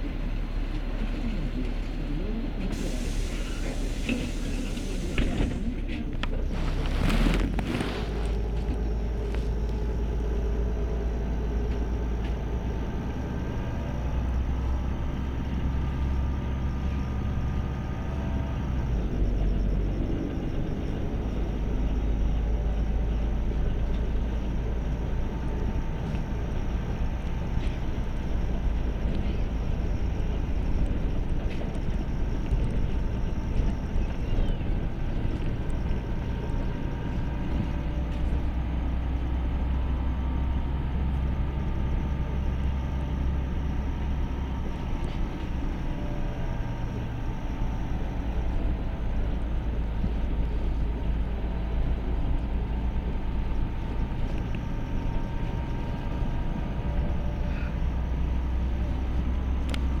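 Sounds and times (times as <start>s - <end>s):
bus engine drone: 0.0s - 60.0s.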